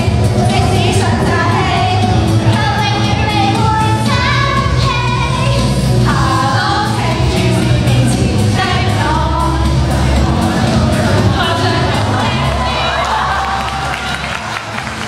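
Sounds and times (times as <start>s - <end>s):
girls singing into microphones: 0.0s - 13.8s
amplified backing track: 0.0s - 15.0s.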